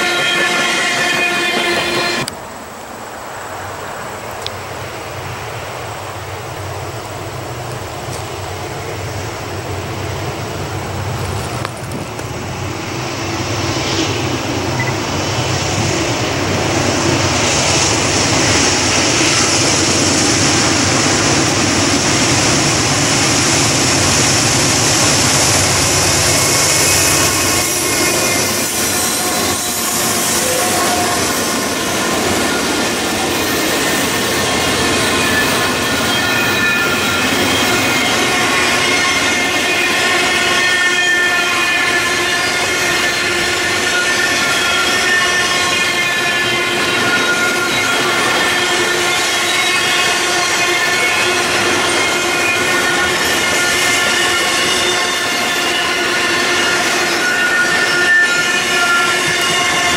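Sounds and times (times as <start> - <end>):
diesel locomotives passing: 0.0 - 59.9
wheels squealing: 10.2 - 59.9.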